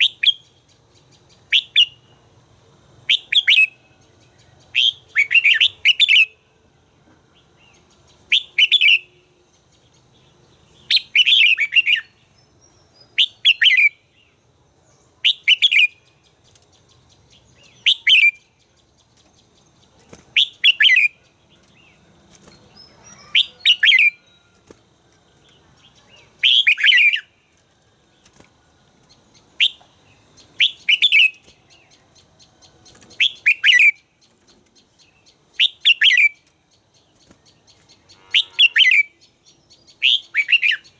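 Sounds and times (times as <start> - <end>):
bird singing bright phrases: 0.0 - 2.3, 3.0 - 40.9.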